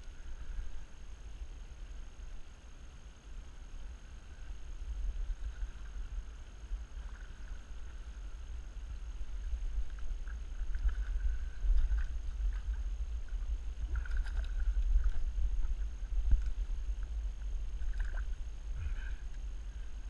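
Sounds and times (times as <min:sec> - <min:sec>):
wind and water rumble: 0:00.0 - 0:20.0.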